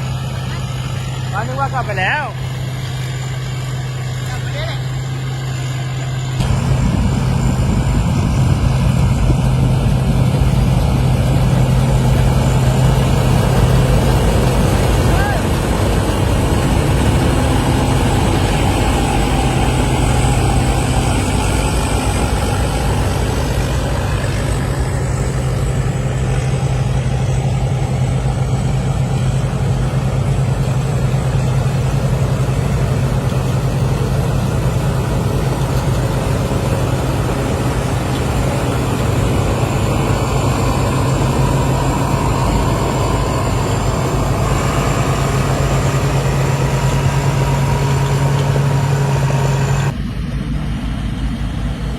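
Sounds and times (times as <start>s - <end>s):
combine harvester engine humming: 0.0s - 51.9s.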